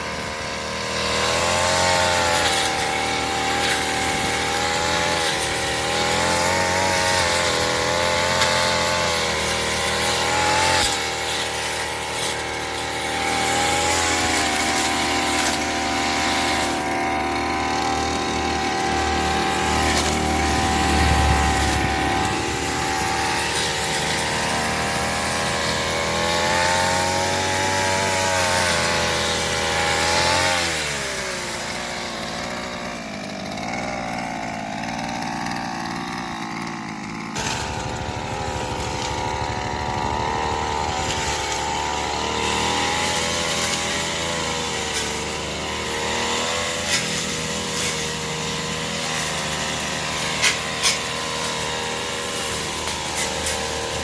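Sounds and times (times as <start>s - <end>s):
brush cutter engine running: 0.0s - 54.0s.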